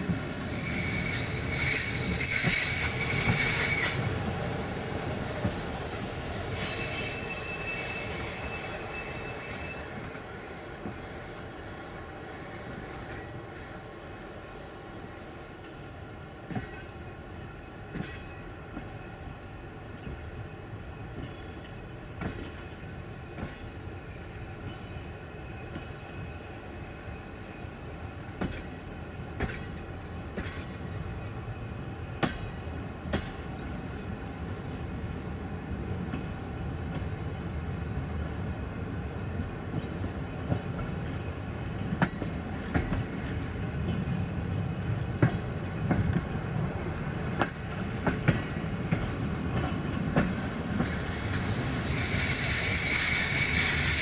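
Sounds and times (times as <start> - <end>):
low train rumble: 0.0 - 54.0.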